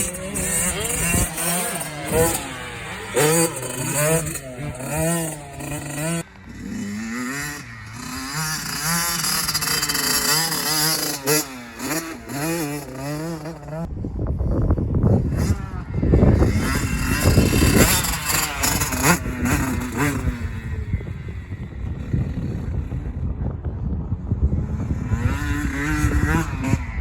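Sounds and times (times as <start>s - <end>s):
dirt bike engines revving: 0.0s - 13.9s, 14.8s - 27.0s.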